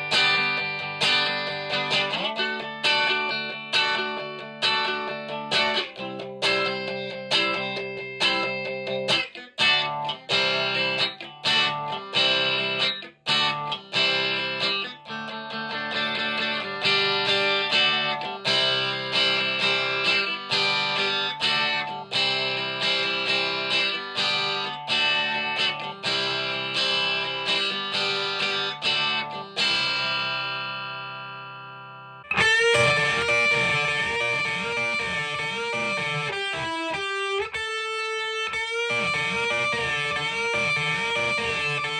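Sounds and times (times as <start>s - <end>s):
electric guitar chords and notes: 0.0s - 41.9s.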